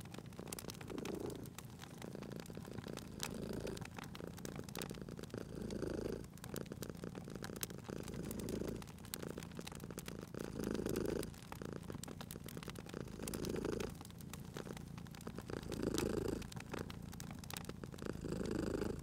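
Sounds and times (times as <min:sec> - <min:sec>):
cat purring: 0:00.0 - 0:19.0
wood fire crackling and popping: 0:00.0 - 0:19.0.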